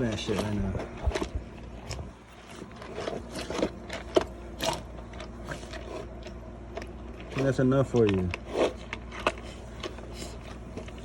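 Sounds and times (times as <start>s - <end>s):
puppy eating: 0.0s - 11.0s.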